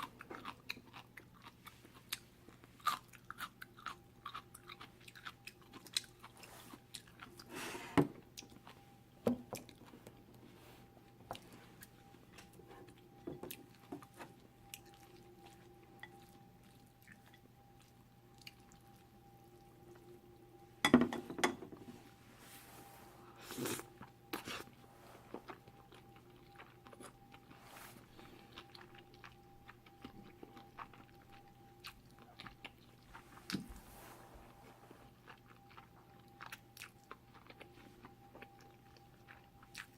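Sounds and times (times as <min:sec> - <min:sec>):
close-up chewing noodles: 0:00.0 - 0:07.5, 0:11.0 - 0:20.2, 0:23.4 - 0:33.6, 0:34.5 - 0:39.9
faint steady hum: 0:00.0 - 0:39.9.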